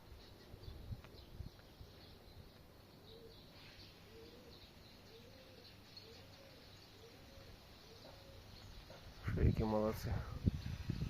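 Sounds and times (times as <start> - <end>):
low rising and falling bird call: 0.0 - 9.3
faint high bird chirps: 0.0 - 11.0.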